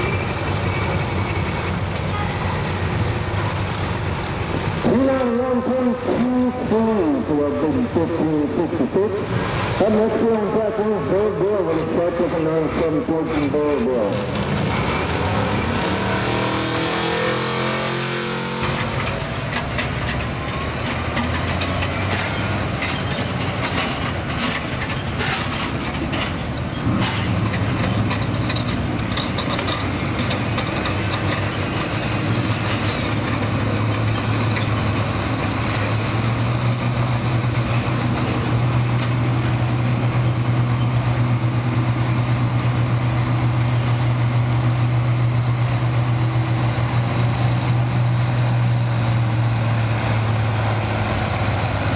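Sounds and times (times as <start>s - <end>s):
tractor engine pulling sled: 0.0s - 51.9s.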